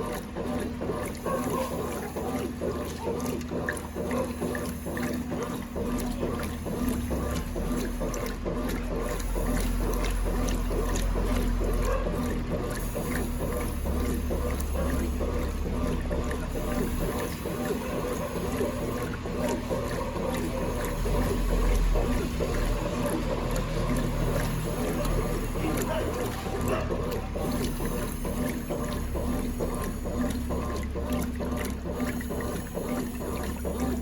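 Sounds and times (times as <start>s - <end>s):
washing machine motor hum: 0.0s - 34.0s
water sloshing in washing machine: 0.0s - 34.0s.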